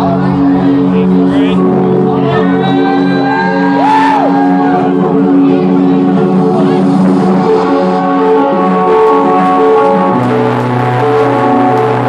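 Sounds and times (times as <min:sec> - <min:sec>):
loud electronic music: 0:00.0 - 0:12.0.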